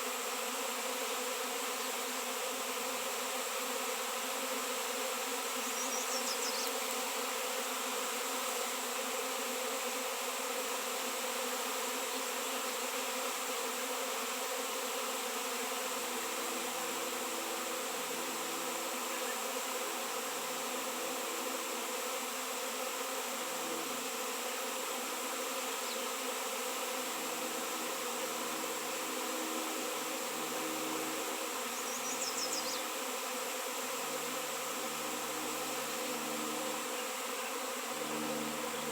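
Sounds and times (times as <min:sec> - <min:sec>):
bees buzzing: 0:00.0 - 0:38.9.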